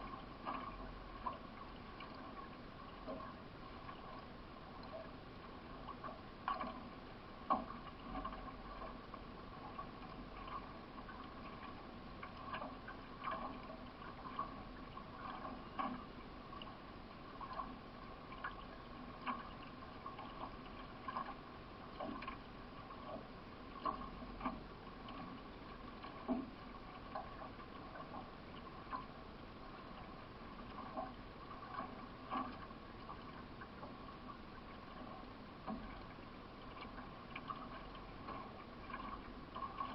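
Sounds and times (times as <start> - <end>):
canoe paddle strokes splashing: 0.0 - 39.9
moving water: 0.0 - 39.9.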